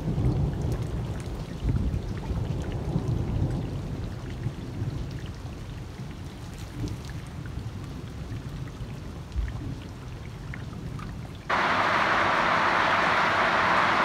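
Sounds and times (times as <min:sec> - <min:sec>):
low rain rumble: 0:00.0 - 0:14.0
raindrops ticking on surfaces: 0:00.0 - 0:14.0.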